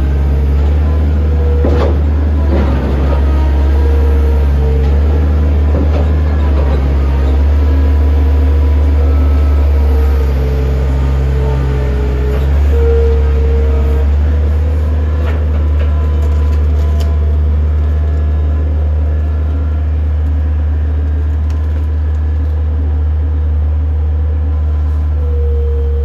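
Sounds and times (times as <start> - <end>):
engine deep even hum: 0.0 - 26.0.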